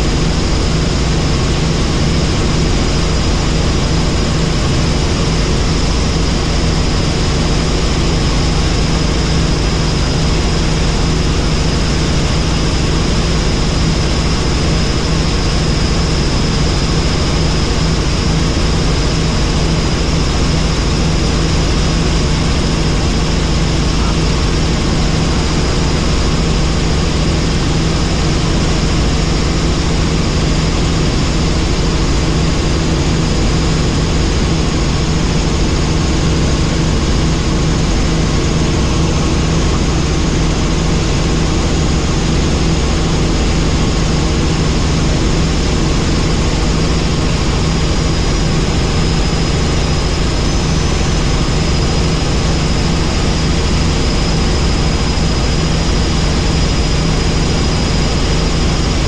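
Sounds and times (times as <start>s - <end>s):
helicopter flying: 0.0s - 59.0s.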